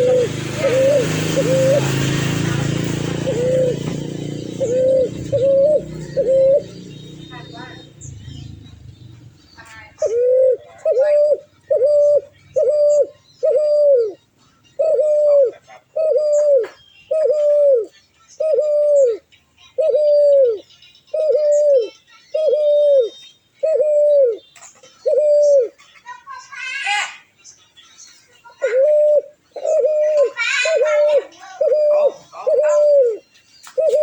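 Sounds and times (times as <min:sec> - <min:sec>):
bird hooting: 0:00.0 - 0:08.8, 0:10.0 - 0:25.8, 0:28.5 - 0:33.2, 0:33.8 - 0:34.0
high bird chirps: 0:00.0 - 0:15.4, 0:16.0 - 0:34.0.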